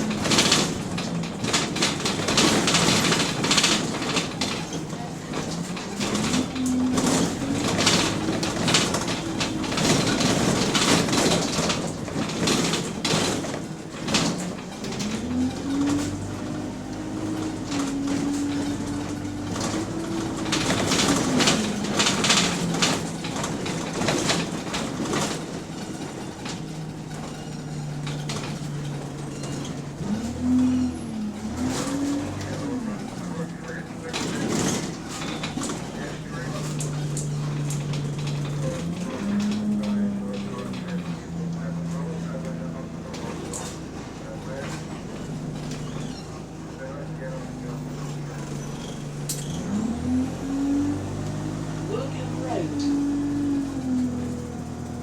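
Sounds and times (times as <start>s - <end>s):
bus diesel engine revving: 0.0s - 55.0s
rattles: 0.0s - 55.0s
road noise: 0.0s - 55.0s.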